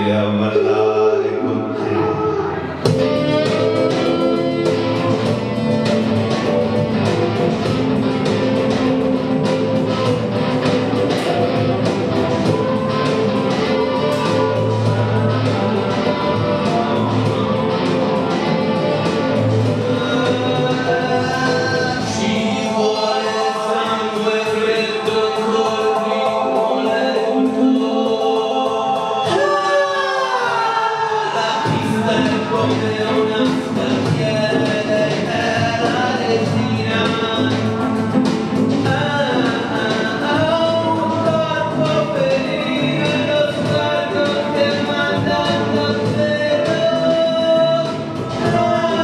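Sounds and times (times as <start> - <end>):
electric guitar: 0.0 - 49.0
man singing: 0.0 - 49.0
synth backing: 0.0 - 49.0
programmed drum beat: 2.7 - 49.0.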